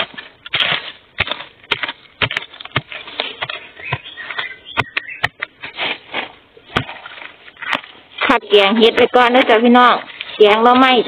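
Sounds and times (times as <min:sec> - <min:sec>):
dry leaves rustling: 0:00.0 - 0:11.0
soil struck and scraped: 0:00.0 - 0:11.0.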